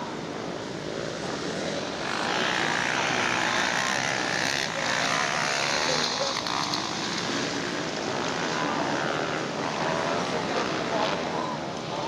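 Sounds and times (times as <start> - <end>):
motocross engines revving: 0.8 - 12.0.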